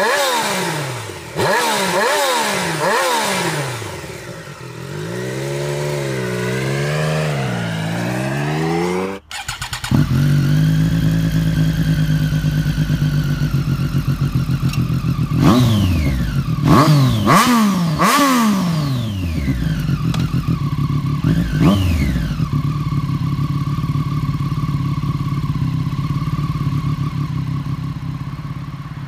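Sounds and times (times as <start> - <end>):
motorcycle engine idling: 0.0 - 29.0
motorcycle engine revving: 0.0 - 29.0.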